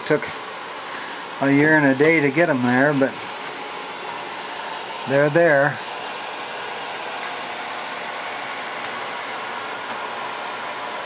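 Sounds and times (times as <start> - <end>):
electric blower rushing air: 0.0 - 11.0.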